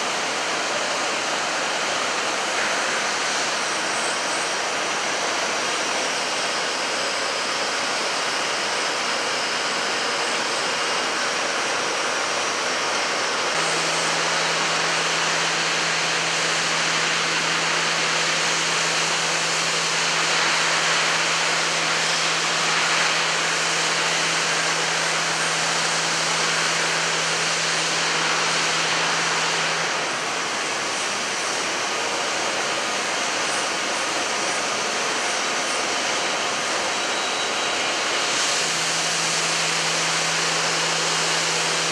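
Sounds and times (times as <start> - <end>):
steady hum: 0.0 - 37.0
milling machine hissing: 0.0 - 41.9.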